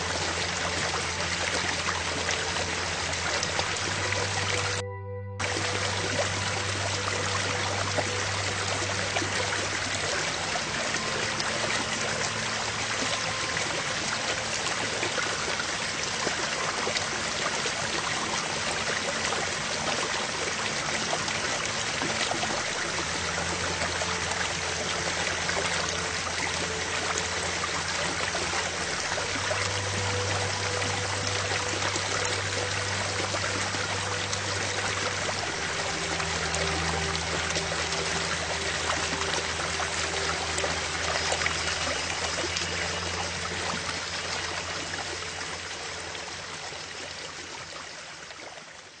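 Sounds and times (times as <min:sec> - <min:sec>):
faint held low tones: 0:00.0 - 0:48.7.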